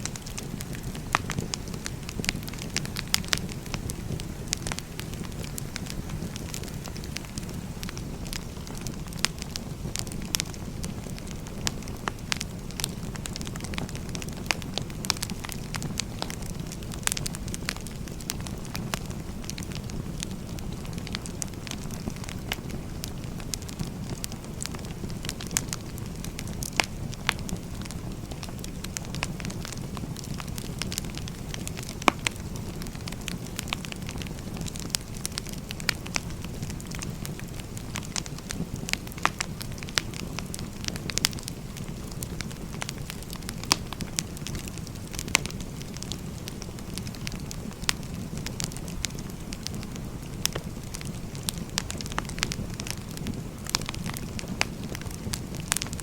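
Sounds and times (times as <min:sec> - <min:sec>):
fire popping: 0:00.0 - 0:56.0
wood fire crackling: 0:00.0 - 0:56.0.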